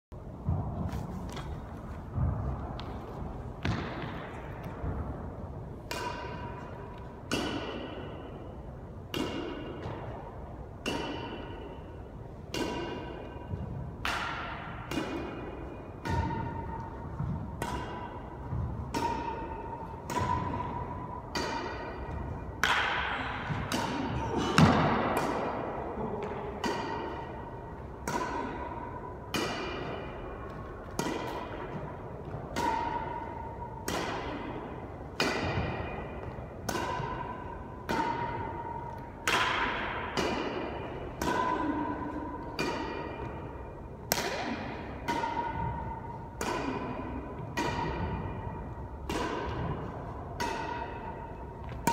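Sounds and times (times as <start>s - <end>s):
racquets hitting shuttlecock: 0.4s - 51.9s.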